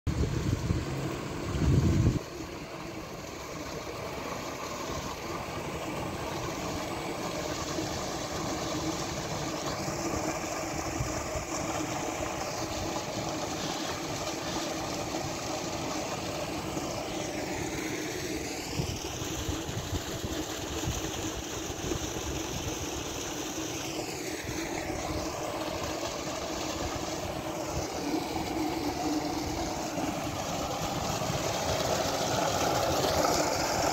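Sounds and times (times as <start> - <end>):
water gushing into a tank: 0.1 - 33.9.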